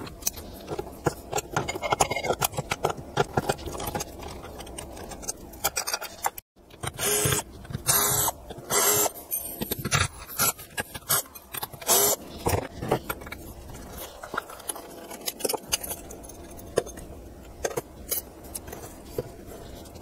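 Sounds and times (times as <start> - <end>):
small metal clicks and scrapes: 0.0 - 20.0.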